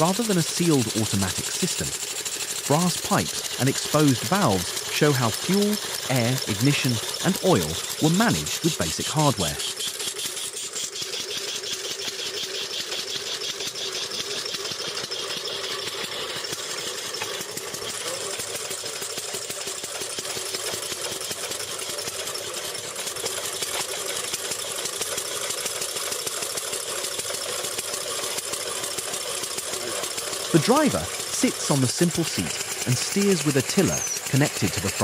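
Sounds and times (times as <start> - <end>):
engine clattering: 0.0 - 35.0.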